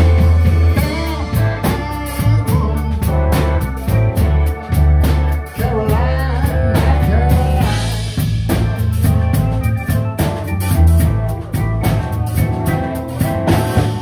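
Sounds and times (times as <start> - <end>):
bass guitar: 0.0 - 14.0
drum kit beat: 0.0 - 14.0
electric guitar: 0.0 - 14.0
keyboard: 0.0 - 14.0
saxophone melody: 0.0 - 14.0.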